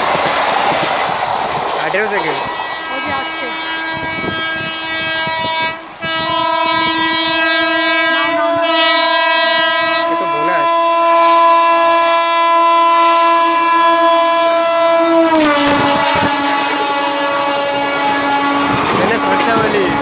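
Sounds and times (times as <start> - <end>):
train rushing past: 0.0 - 10.9, 11.6 - 20.0
locomotive horn blast: 1.9 - 20.0.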